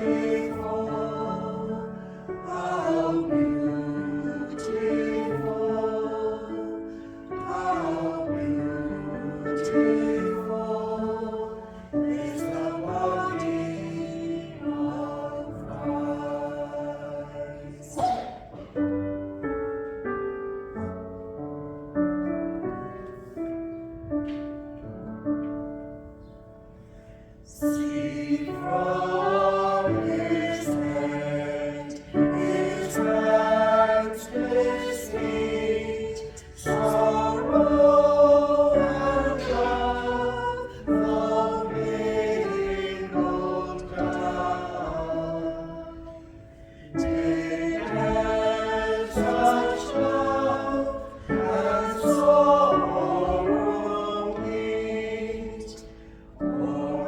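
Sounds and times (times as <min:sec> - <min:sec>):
church choir singing a hymn: 0:00.0 - 0:21.0, 0:21.7 - 0:57.0.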